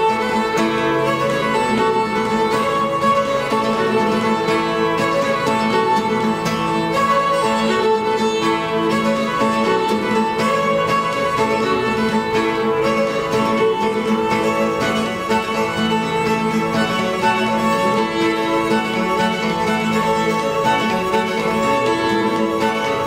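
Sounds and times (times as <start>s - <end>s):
acoustic guitar backing: 0.0s - 23.0s
fiddle melody: 0.0s - 23.0s.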